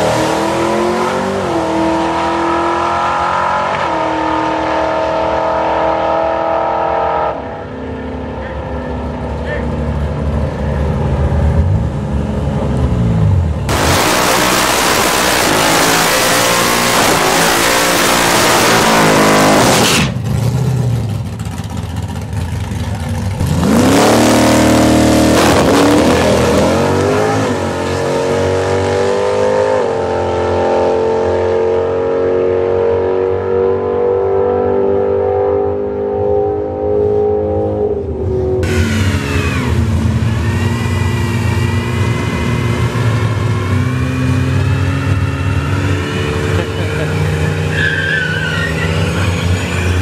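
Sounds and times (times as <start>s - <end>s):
racing car engines at full throttle: 0.0s - 50.0s.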